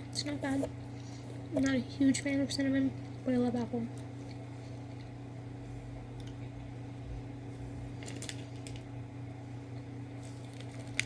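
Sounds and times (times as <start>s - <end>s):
low hum of room tone: 0.0s - 11.0s.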